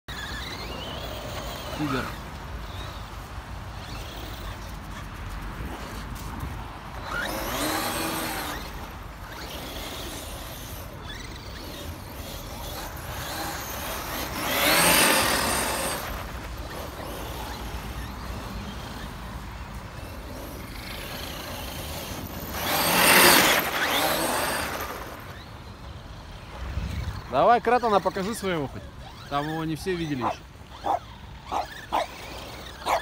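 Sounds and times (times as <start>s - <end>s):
rc truck motor whine: 0.1s - 33.0s.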